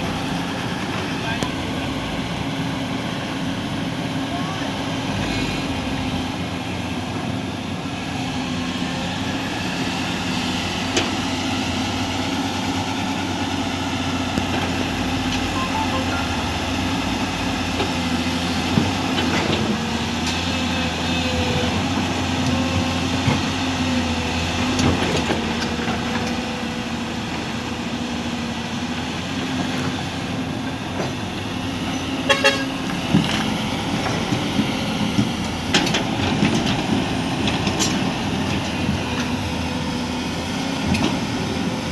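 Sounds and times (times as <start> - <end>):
diesel engine running steadily: 0.0 - 41.9.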